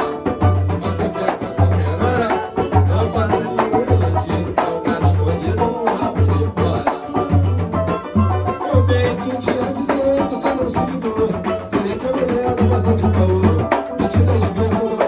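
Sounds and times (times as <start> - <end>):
acoustic samba group: 0.0 - 15.0
deep hand drum beat: 0.0 - 15.0.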